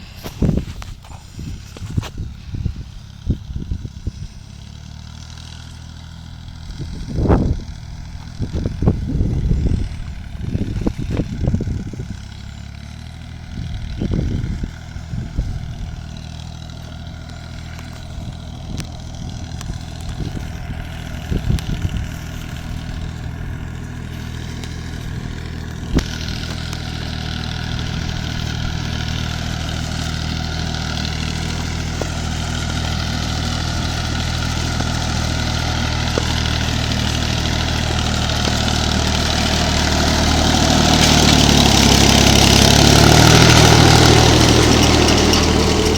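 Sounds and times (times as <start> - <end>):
engine knocks: 0.0 - 45.9
tractor engine running: 0.0 - 45.9.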